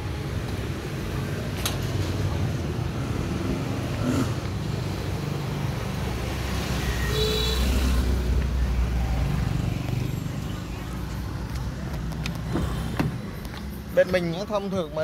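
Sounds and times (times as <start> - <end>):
street traffic: 0.0 - 15.0
vehicle engine rumble: 0.0 - 15.0.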